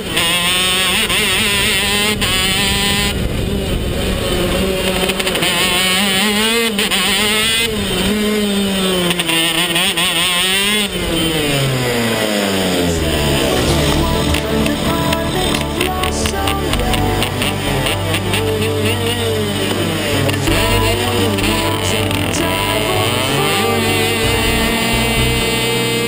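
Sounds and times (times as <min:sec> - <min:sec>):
kart engine revving: 0:00.0 - 0:26.0.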